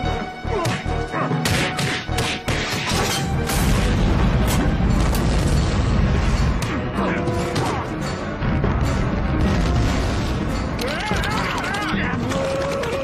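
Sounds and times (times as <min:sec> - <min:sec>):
dramatic cartoon music: 0:00.0 - 0:13.0.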